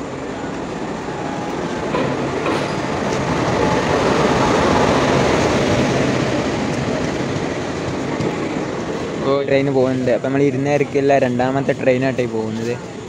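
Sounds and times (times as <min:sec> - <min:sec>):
sharp clicks of train wheels: 0:00.0 - 0:13.0
train wheels rumbling on rails: 0:00.0 - 0:13.0.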